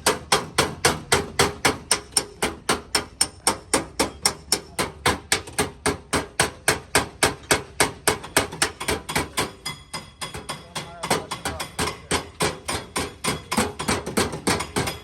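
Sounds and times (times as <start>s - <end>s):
hammer tapping on sheet metal: 0.0s - 15.0s.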